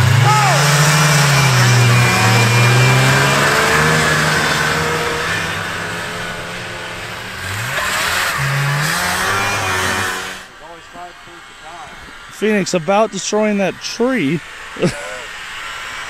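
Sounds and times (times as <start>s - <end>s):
two-stroke snowmobile engines racing: 0.0s - 16.0s.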